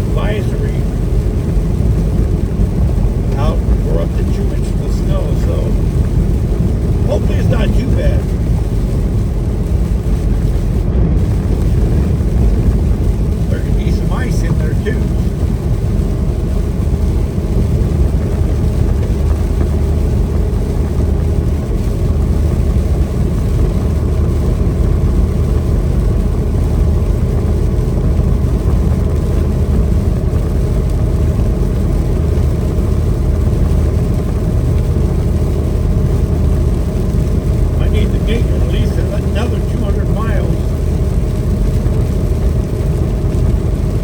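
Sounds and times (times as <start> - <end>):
road noise: 0.0 - 44.0
truck engine drone: 0.0 - 44.0.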